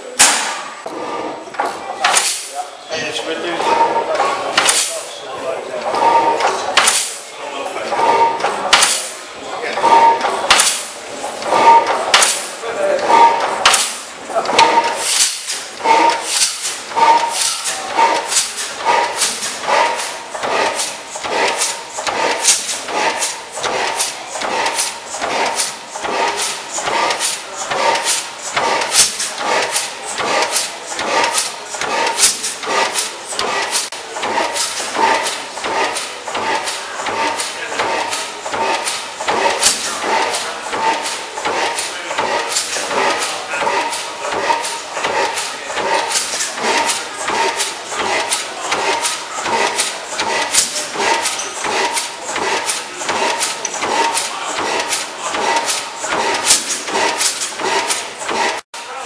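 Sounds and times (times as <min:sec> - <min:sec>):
stationary gas engine running: 0:03.5 - 0:58.6.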